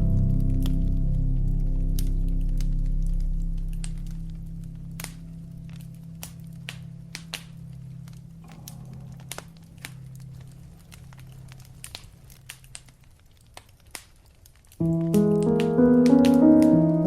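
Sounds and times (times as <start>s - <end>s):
low music notes: 0.0s - 12.8s, 14.8s - 17.0s
fireplace crackling and popping: 0.1s - 17.0s.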